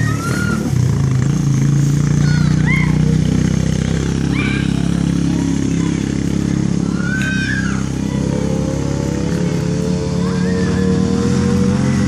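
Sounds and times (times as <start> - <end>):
children shouting: 0.0 - 1.0, 2.1 - 12.0
atv engine running: 0.0 - 12.0.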